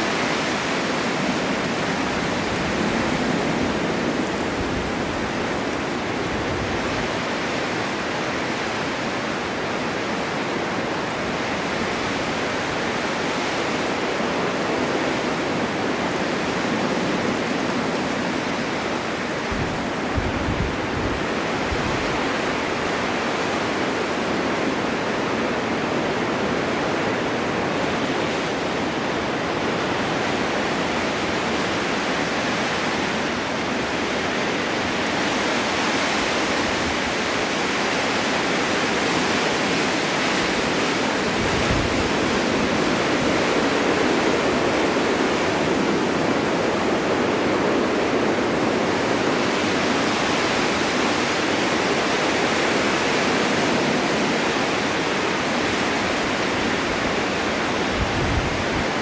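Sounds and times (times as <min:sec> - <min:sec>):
snowstorm wind rushing: 0:00.0 - 0:59.0.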